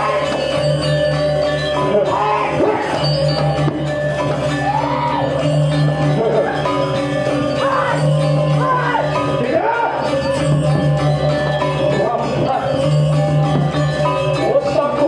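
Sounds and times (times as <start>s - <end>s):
metallophones struck in interlocking pattern: 0.0s - 15.0s.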